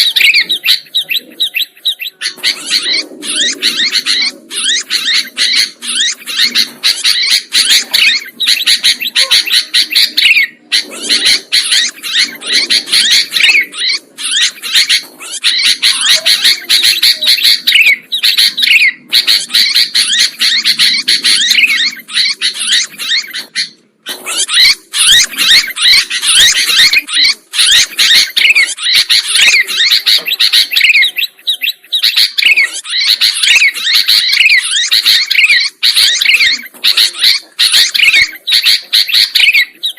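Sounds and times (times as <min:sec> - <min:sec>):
bulbuls chirping and singing: 0:00.0 - 0:39.9.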